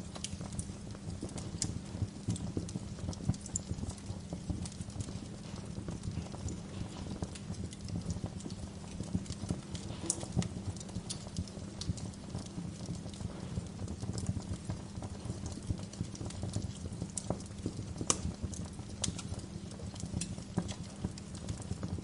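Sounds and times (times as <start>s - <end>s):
bonfire crackling: 0.0s - 22.0s
low rumble of flames: 0.0s - 22.0s.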